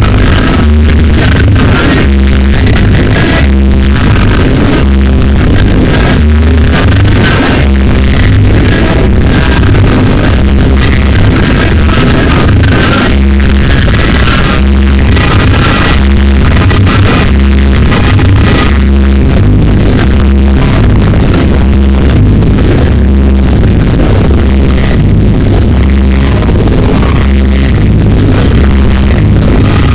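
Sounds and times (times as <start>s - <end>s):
loud dance music with bass: 0.0s - 29.9s.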